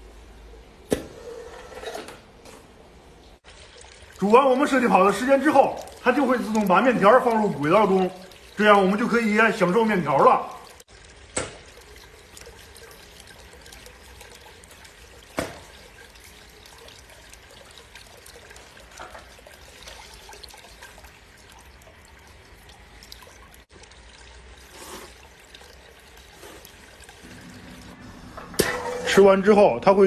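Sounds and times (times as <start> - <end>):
water trickling: 3.0 - 30.0.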